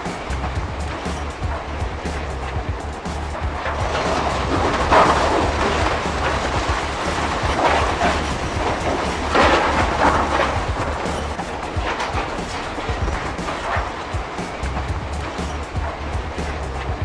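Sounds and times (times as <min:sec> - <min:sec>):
ocean surf rushing: 0:00.0 - 0:17.0
steady low rumble: 0:00.0 - 0:17.0
wind: 0:00.0 - 0:17.0.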